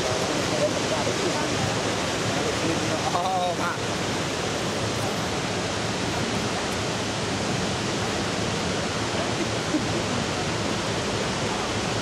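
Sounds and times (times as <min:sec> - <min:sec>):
roar of rushing waterfall: 0:00.0 - 0:12.0.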